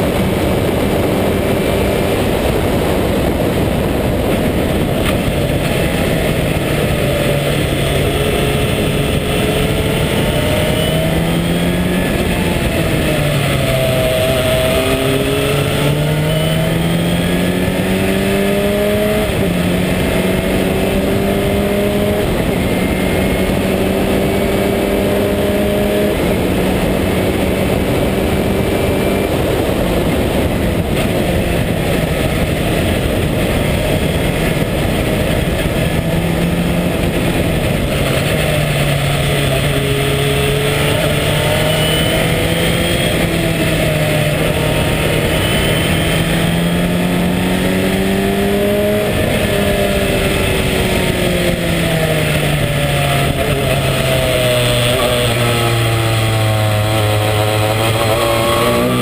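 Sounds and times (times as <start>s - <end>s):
race car engine accelerating: 0.0s - 59.0s
wind rush: 0.0s - 59.0s.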